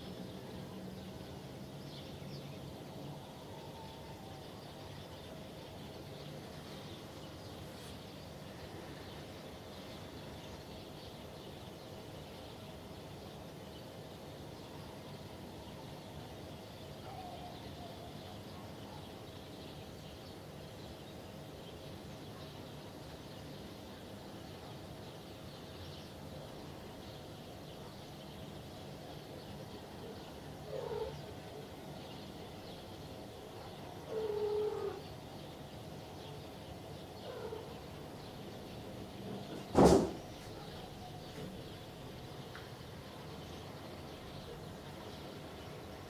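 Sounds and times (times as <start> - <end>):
outdoor background noise: 0.0 - 46.0.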